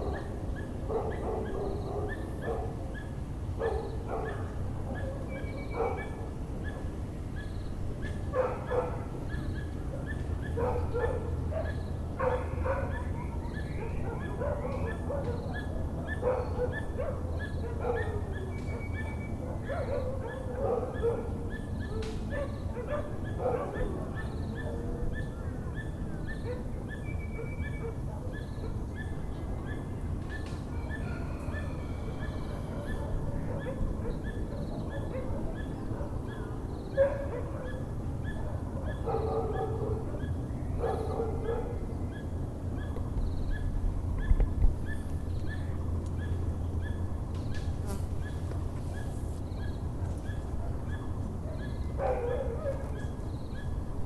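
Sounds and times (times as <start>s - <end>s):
dogs barking: 0.0s - 47.1s, 48.2s - 53.8s
low rumble of town noise: 0.0s - 54.0s.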